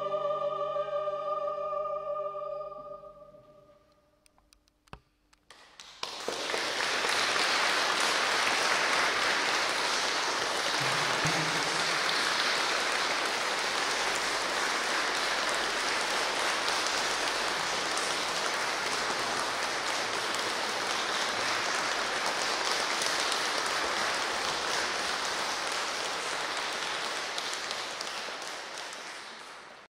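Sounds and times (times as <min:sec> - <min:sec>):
audience applauding: 0:05.5 - 0:29.9.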